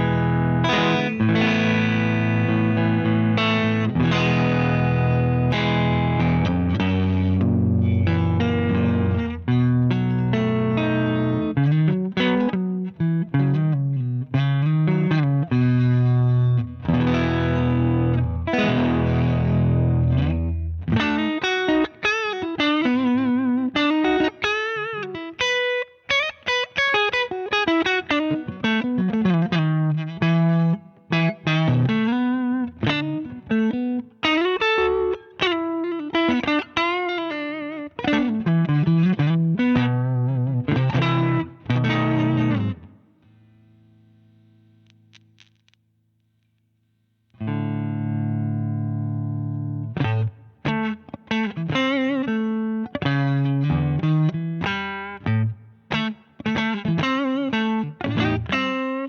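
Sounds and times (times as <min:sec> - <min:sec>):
overdriven electric guitar: 0:00.0 - 0:46.6, 0:47.3 - 0:59.0.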